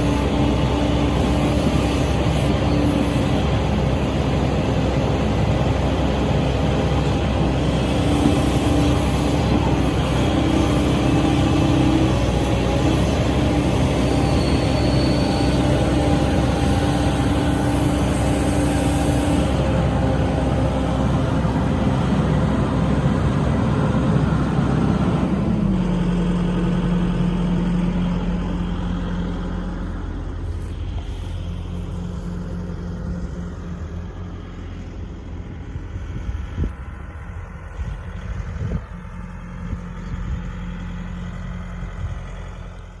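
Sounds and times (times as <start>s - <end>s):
excavator engine and hydraulics: 0.0s - 43.0s.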